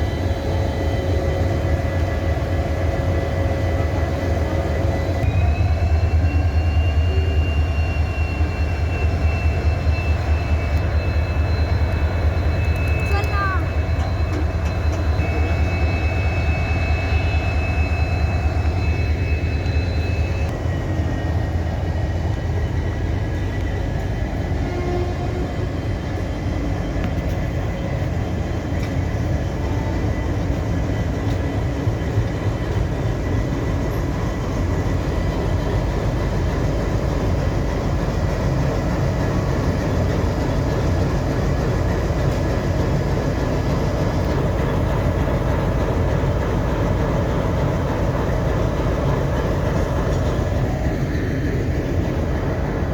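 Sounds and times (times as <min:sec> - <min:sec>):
diesel locomotive engine humming: 0:00.0 - 0:52.9.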